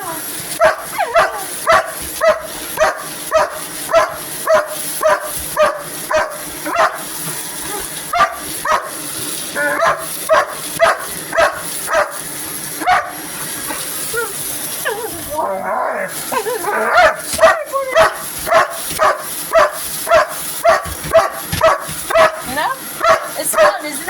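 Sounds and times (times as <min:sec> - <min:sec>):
vacuum cleaner hiss: 0:00.0 - 0:24.0
dog barking: 0:00.5 - 0:09.0, 0:09.6 - 0:12.2, 0:12.8 - 0:13.9, 0:16.7 - 0:24.0.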